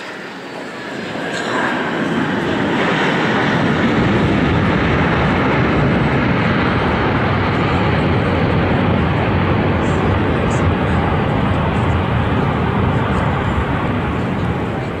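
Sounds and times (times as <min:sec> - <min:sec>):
aircraft engine noise: 0:00.0 - 0:15.0.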